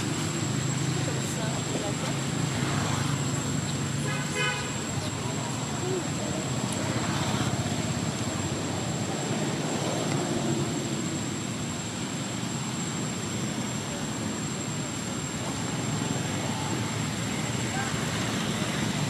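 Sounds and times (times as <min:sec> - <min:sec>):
traffic drone: 0:00.0 - 0:19.0.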